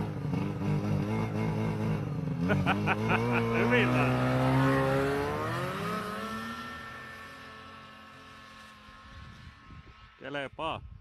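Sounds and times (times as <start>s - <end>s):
snowmobile engine revving: 0.0s - 10.2s.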